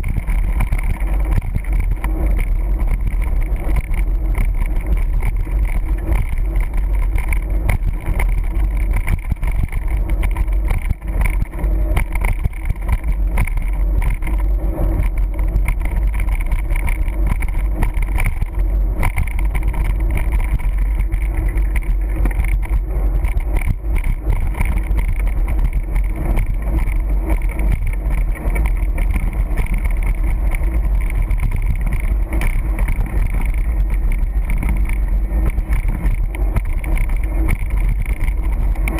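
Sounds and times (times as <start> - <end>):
bike tyres rolling on asphalt: 0.0 - 38.9
wind buffeting microphone: 0.0 - 38.9.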